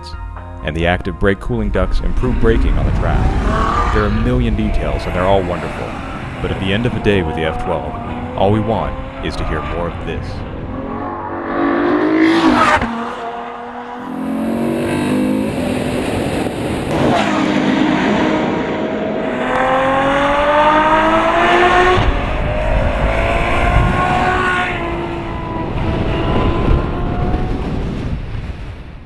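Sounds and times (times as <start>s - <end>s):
car engine accelerating hard: 2.0s - 28.0s.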